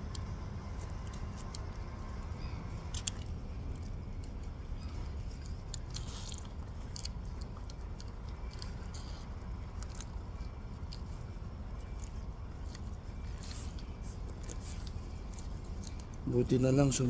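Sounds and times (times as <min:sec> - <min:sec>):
small clicks and wet handling: 0:00.0 - 0:17.0.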